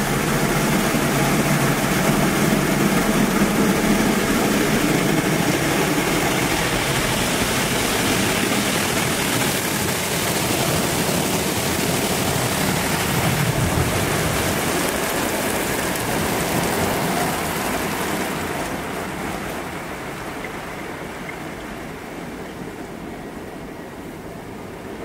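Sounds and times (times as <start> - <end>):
water spraying on car windshield: 0.0 - 21.1.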